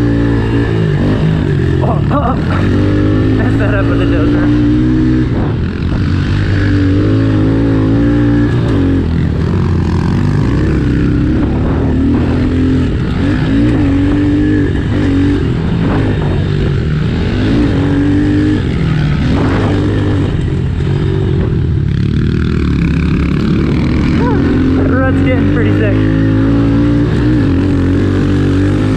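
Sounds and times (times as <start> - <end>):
motorbike engine revving: 0.0 - 28.9.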